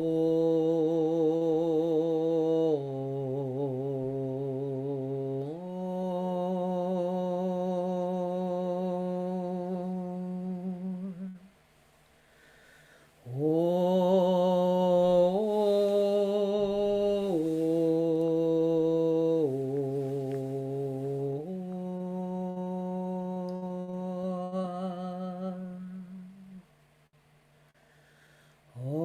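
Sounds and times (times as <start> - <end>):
woman humming a low note: 0.0 - 11.5, 13.3 - 26.7.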